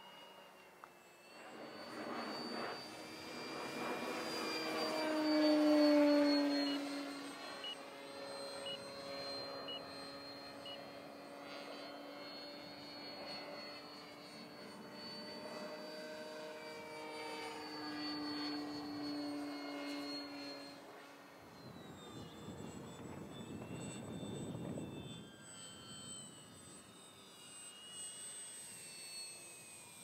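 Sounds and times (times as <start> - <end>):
model airplane motor whine: 0.0 - 30.0.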